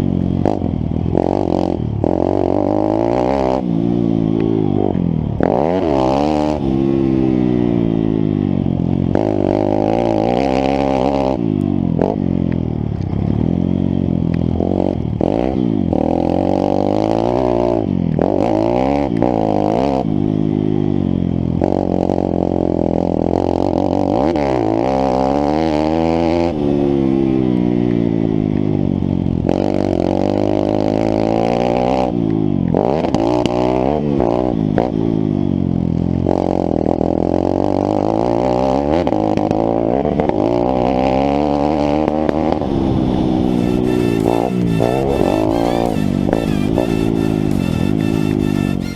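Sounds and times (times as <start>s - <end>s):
pit bike engine revving: 0.0s - 48.9s.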